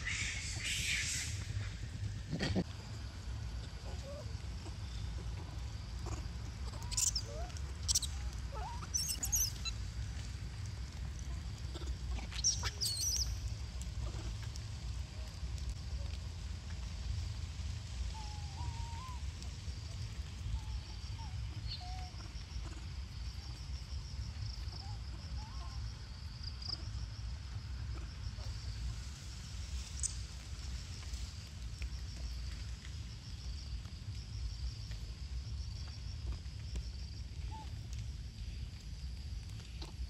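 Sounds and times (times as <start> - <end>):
insects chirring: 0.0 - 14.9, 18.1 - 40.0
constant low rumble: 0.0 - 40.0.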